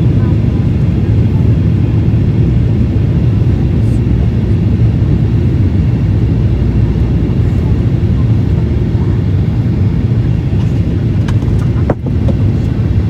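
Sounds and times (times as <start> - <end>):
airliner engine rumble in cabin: 0.0 - 13.0.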